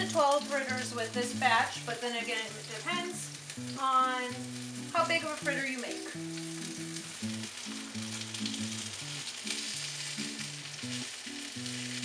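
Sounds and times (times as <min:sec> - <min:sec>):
background music with low notes: 0:00.0 - 0:12.0
fritters sizzling in oil: 0:00.0 - 0:12.0.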